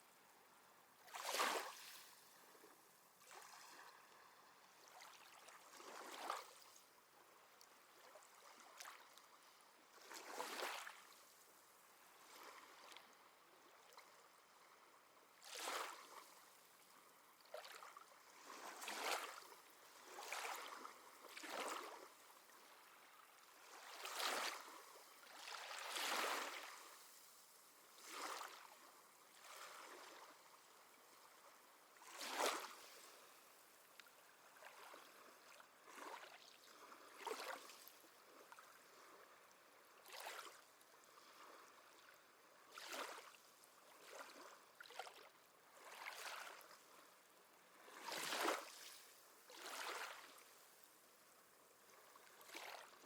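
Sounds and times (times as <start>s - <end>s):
small waves lapping on shore: 0.0s - 53.0s.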